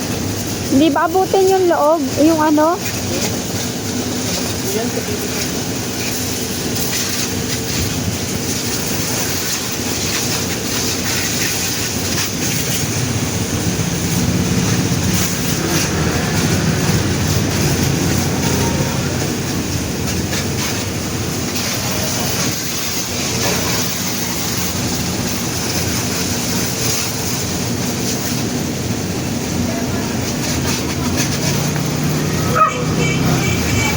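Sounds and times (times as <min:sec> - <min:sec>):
motor pump hum: 0:00.0 - 0:33.9
spraying water: 0:00.0 - 0:33.9.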